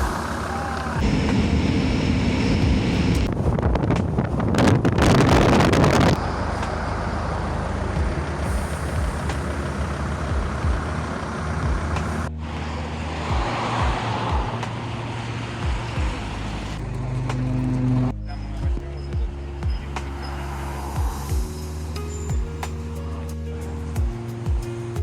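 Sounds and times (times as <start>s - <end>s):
tyre and wind noise: 0.0s - 7.2s, 7.8s - 22.8s
minibus engine drone: 0.0s - 25.0s.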